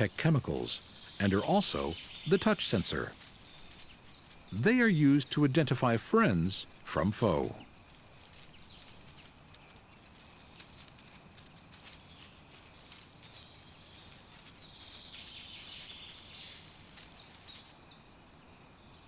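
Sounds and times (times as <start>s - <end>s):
high thin chirps: 0.0s - 17.8s
light ticking and pattering: 0.0s - 17.8s.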